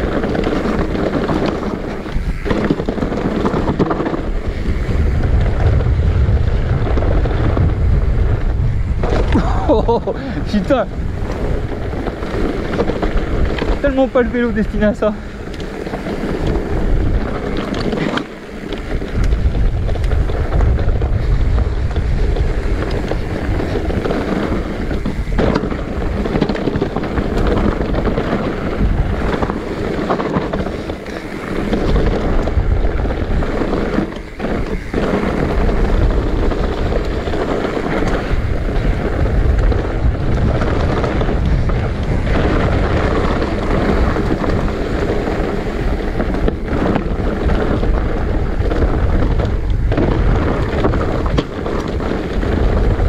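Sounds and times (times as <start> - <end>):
bike knocking over bumps: 0.0 - 53.0
mountain bike rattling on dirt: 0.0 - 53.0
wind buffeting microphone: 0.0 - 53.0.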